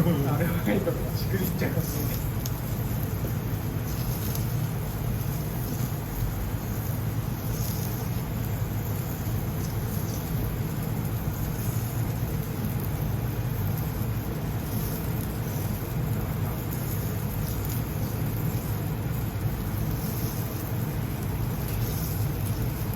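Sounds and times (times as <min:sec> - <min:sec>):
gas grill rumble and hiss: 0:00.0 - 0:22.9
patties sizzling: 0:00.0 - 0:22.9.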